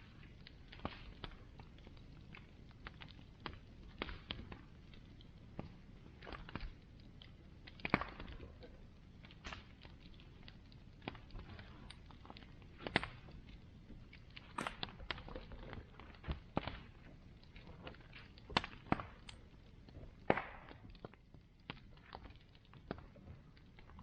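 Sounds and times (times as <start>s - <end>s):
bonfire crackling and popping: 0.0s - 24.0s
low steady rush of fire: 0.0s - 24.0s.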